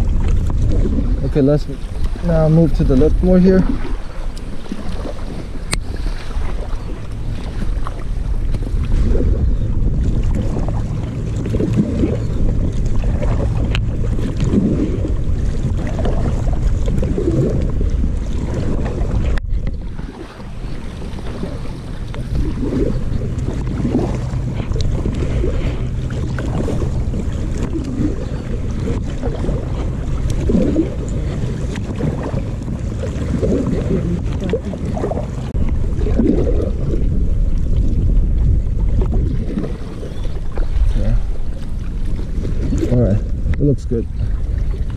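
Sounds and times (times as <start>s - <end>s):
paddle strokes: 0.0s - 44.9s
water sloshing against hull: 0.0s - 44.9s
wind rumbling on microphone: 0.0s - 44.9s.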